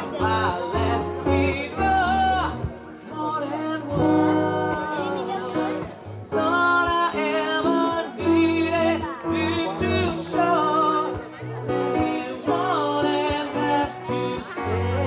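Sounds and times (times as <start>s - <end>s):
acoustic guitar: 0.0s - 15.0s
vocal group singing: 0.0s - 15.0s.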